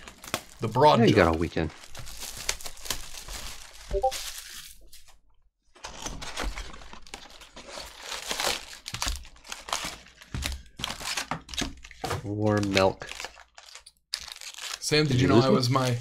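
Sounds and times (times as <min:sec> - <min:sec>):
plastic shrink-wrap crinkling: 0:00.0 - 0:05.1, 0:05.8 - 0:16.0
foil packs rustling: 0:00.0 - 0:05.2, 0:05.8 - 0:16.0.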